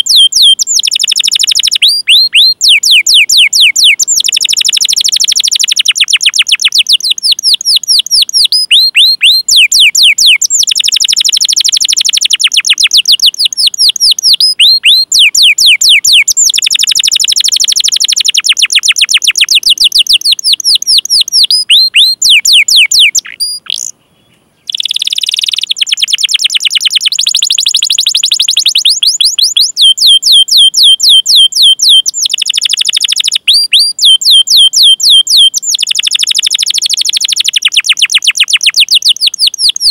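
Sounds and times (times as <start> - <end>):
canary trilling: 0.0 - 24.0, 24.6 - 39.9.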